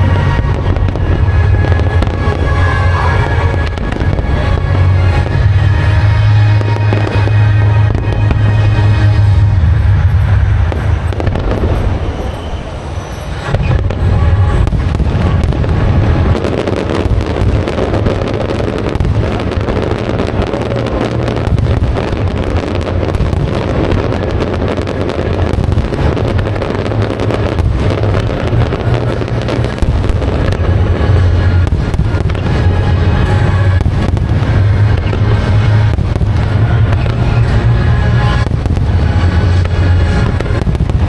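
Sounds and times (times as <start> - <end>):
fireworks bangs and crackling: 0.0 - 41.0
low booming rumble: 0.0 - 41.0.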